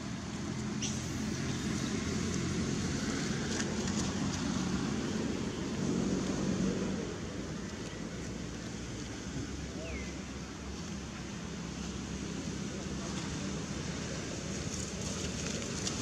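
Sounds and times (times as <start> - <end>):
low hum of traffic: 0.0 - 16.0.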